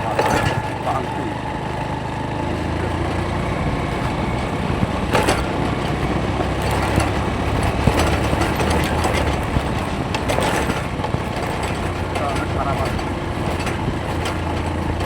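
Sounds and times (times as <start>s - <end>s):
knocks and rattles: 0.0s - 1.2s, 2.5s - 15.0s
vehicle engine humming: 0.0s - 15.0s.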